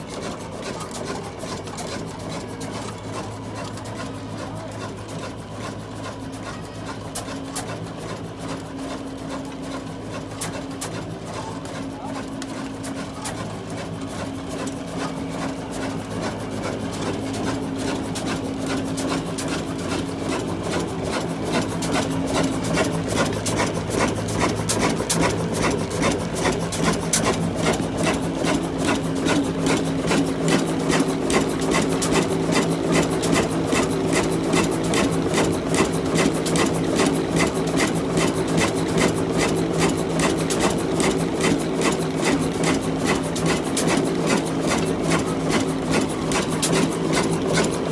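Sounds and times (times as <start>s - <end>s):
diesel engine knocking: 0.0s - 47.9s.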